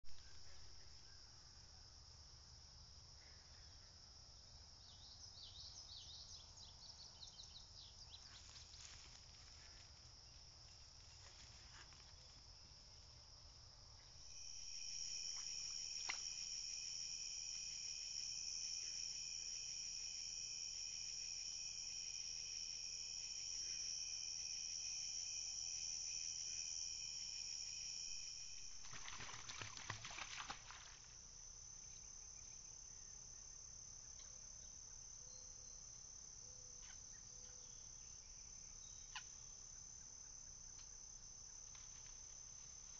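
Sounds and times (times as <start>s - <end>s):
crickets and insects trilling: 0.1s - 42.9s.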